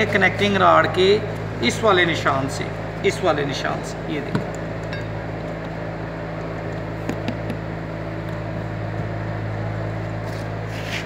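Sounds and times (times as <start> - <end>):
machinery electrical hum: 0.0 - 11.0.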